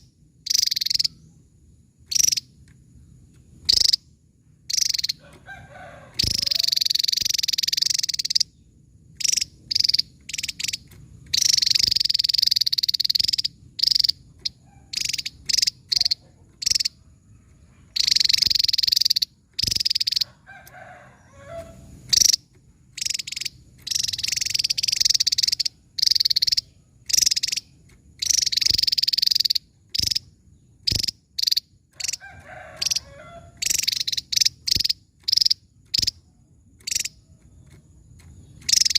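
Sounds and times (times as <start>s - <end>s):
bird singing trills and notes: 0.0s - 5.4s, 6.1s - 38.9s.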